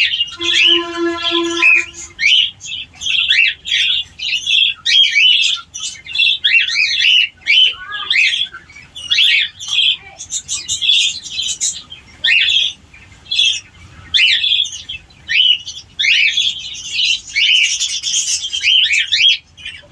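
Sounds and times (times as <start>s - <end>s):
cockatiels chirping and squawking: 0.0s - 19.9s.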